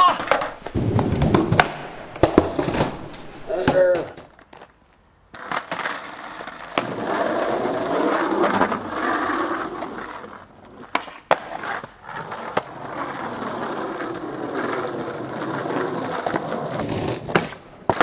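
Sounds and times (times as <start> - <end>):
skateboard clacks: 0.0 - 2.8, 3.6 - 18.0
skateboard wheels rolling on asphalt: 0.0 - 18.0.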